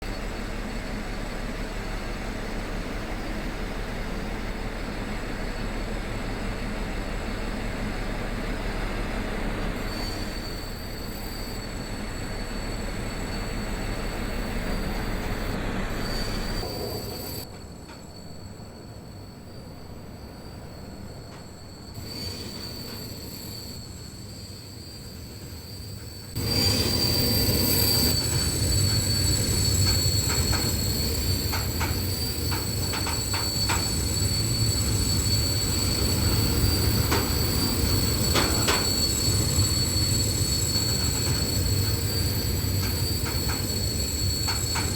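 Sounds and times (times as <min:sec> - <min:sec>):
rail brakes squealing: 0:00.0 - 0:44.9.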